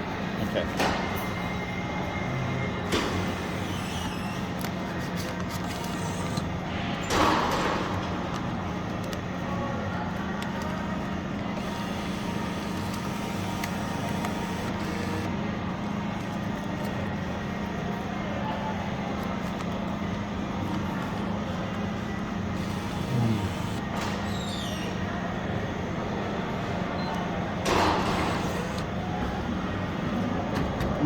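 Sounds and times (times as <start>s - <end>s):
vending machine hum: 0.0s - 31.0s.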